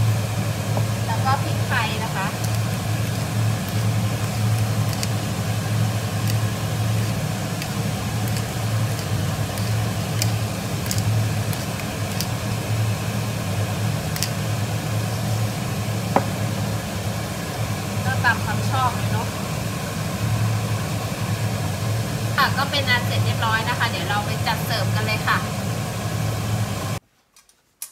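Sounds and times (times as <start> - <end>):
kitchen appliance humming: 0.0 - 27.0.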